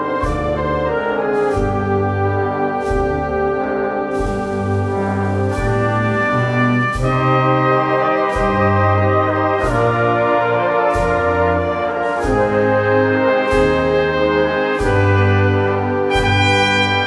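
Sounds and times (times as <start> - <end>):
brass band playing a slow march: 0.0 - 17.0
drum strokes: 0.0 - 17.0.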